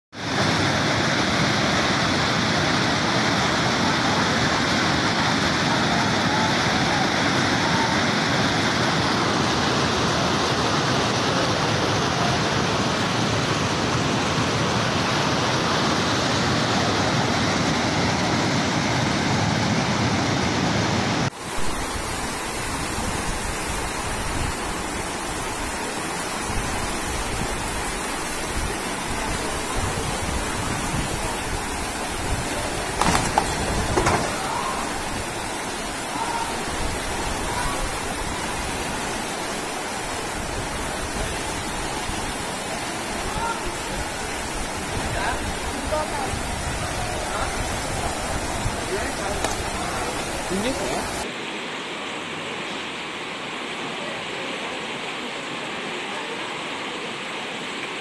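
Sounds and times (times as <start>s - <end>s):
floodwater rushing: 0.1s - 58.0s.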